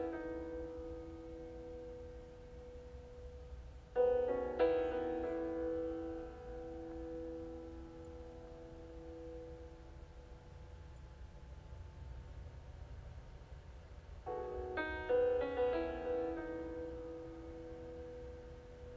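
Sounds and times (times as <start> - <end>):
piano chords ringing: 0.0 - 13.0, 14.0 - 18.9.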